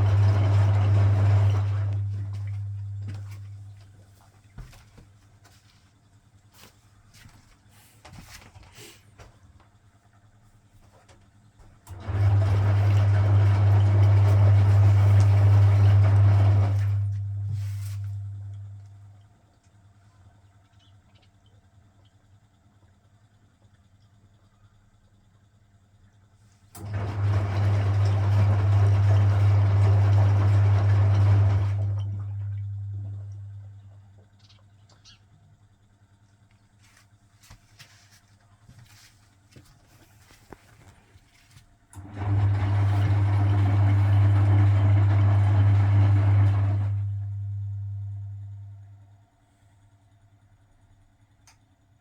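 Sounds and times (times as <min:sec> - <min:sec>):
washing machine electric hum: 0:00.0 - 0:52.0.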